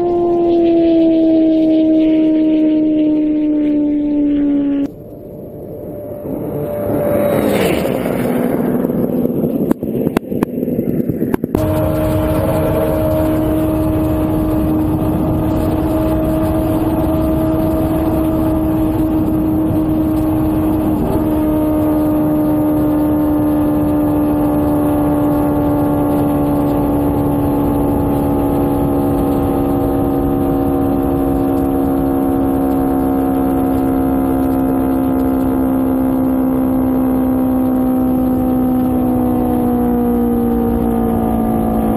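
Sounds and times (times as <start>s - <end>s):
wind rush: 0.0s - 37.0s
motorcycle engine at high speed: 0.0s - 41.9s.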